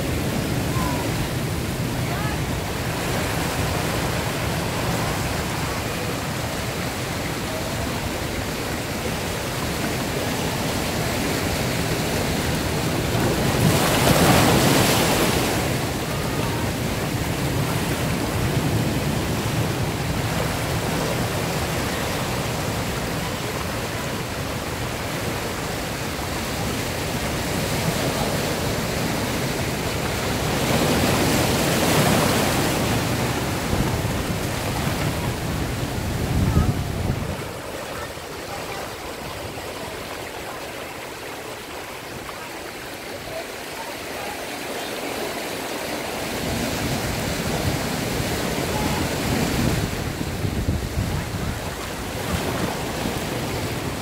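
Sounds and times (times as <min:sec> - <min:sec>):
surf rushing through rocks: 0:00.0 - 0:54.0
waves breaking: 0:00.0 - 0:54.0.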